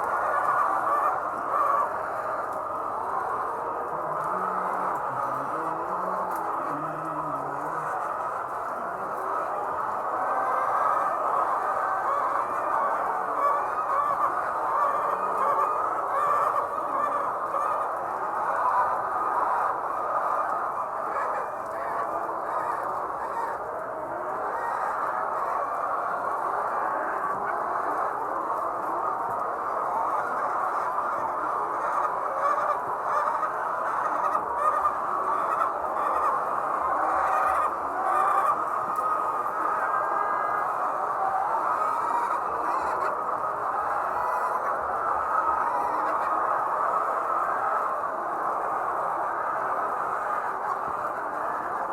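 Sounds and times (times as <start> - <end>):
hens clucking and squawking: 0.0 - 51.9.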